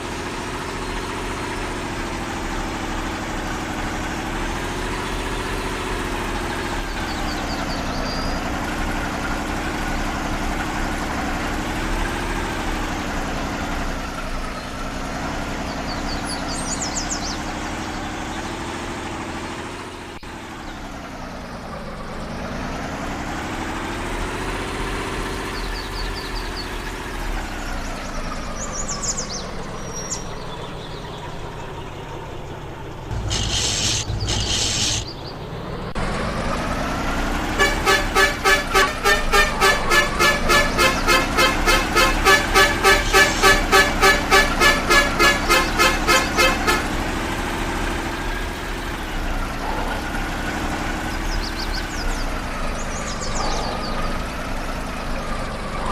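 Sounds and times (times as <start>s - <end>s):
off-road vehicle engine revving: 0.0s - 31.1s, 33.0s - 55.9s.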